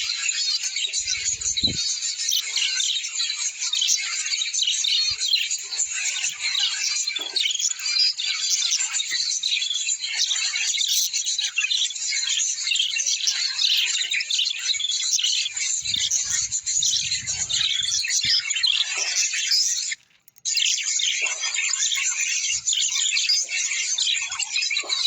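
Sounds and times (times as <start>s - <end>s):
flock of small birds chirping: 0.0s - 25.0s.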